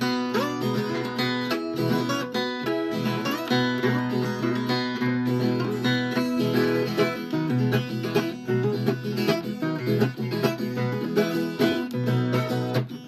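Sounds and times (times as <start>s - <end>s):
plucked guitar instrumental: 0.0s - 13.0s.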